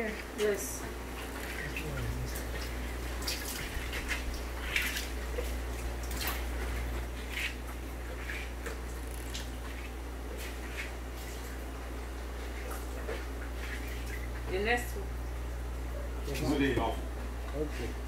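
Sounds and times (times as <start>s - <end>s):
steady low hum: 0.0s - 18.0s
water dripping and splashing: 0.1s - 15.3s.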